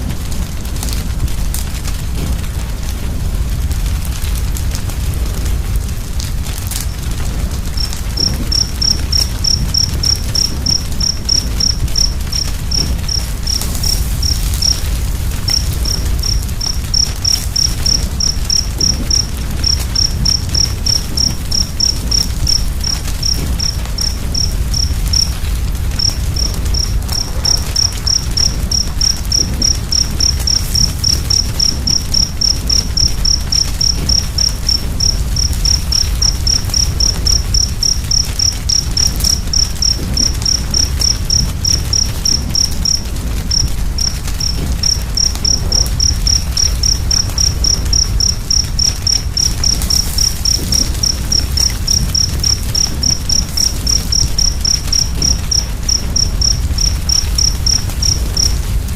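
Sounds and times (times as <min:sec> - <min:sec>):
cricket chirping: 0:00.0 - 0:58.9
wood fire crackling: 0:00.0 - 0:58.9.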